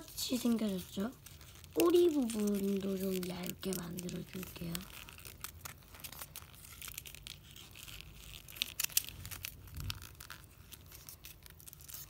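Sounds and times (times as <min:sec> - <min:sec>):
paper folding and crackling: 0:00.0 - 0:12.0.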